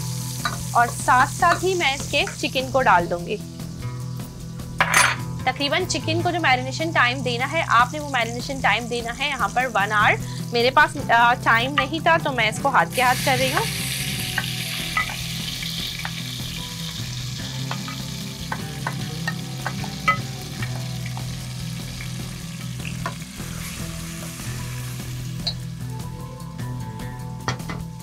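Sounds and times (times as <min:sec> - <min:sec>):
chicken sizzling in hot oil: 0:00.0 - 0:28.0.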